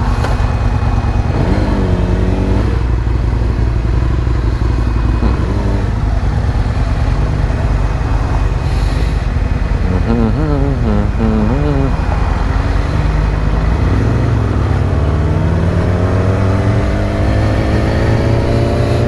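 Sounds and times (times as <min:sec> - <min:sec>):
motorcycle engine droning: 0:00.0 - 0:19.0
road and wind noise: 0:00.0 - 0:19.0.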